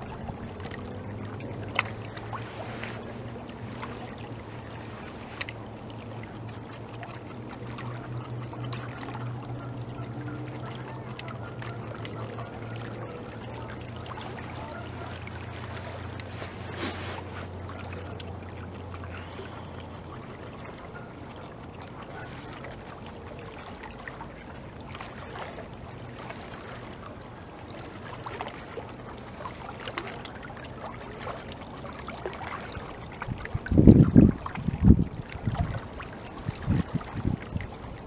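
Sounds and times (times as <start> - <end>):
low steady hum: 0.0 - 38.0
water trickling and lapping: 0.0 - 38.0.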